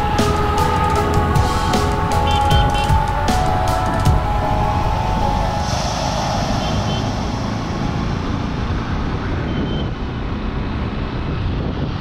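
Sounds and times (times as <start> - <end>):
road vehicle low rumble: 0.0 - 12.0.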